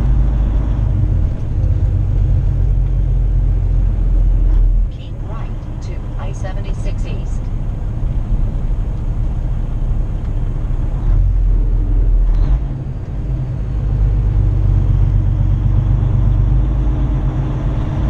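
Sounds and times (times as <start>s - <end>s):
truck engine drone: 0.0s - 18.0s.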